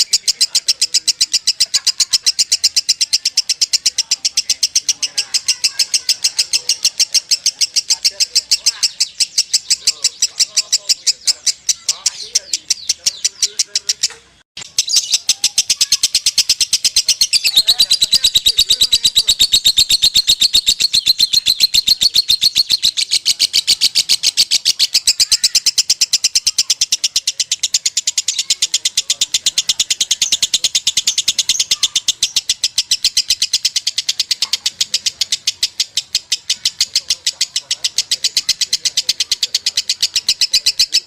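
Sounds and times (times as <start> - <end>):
bird trilling: 0.0 - 41.0.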